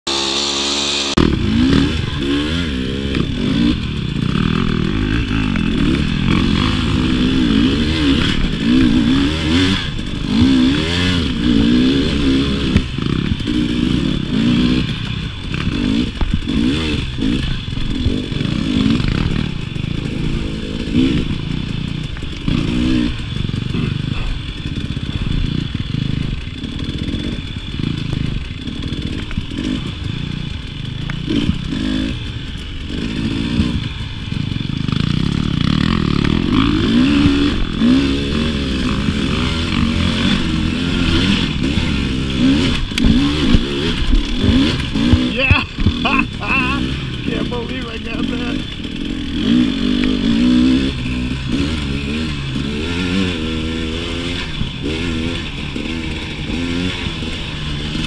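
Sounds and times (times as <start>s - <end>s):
dirt bike engine revving: 0.1s - 58.0s.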